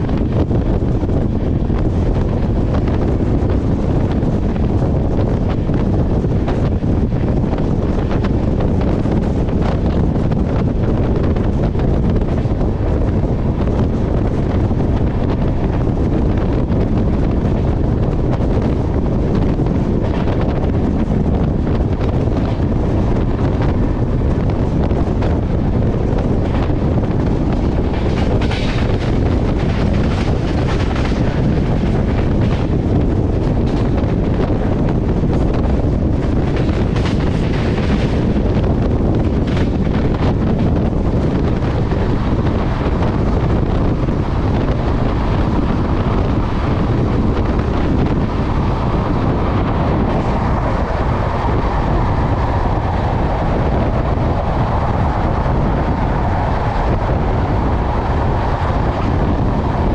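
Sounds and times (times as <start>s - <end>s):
moving train rumble: 0.0s - 59.9s
wind noise on microphone: 0.0s - 59.9s.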